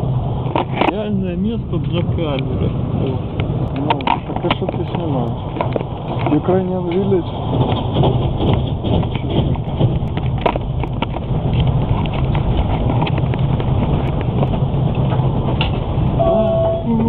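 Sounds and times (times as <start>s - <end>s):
train rumble from inside carriage: 0.0s - 17.0s.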